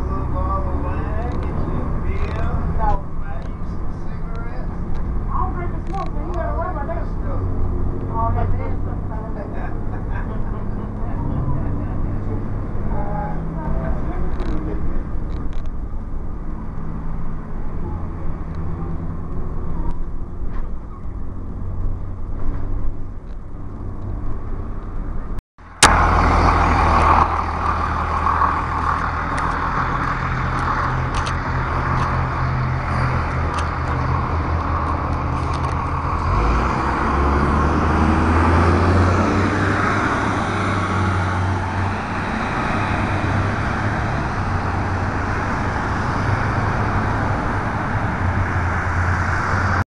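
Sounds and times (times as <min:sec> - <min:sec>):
bus diesel engine running: 0:00.0 - 0:49.8.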